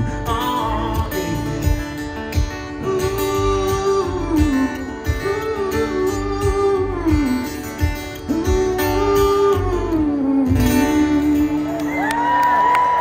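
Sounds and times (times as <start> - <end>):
acoustic guitar over sound system: 0.0 - 13.0.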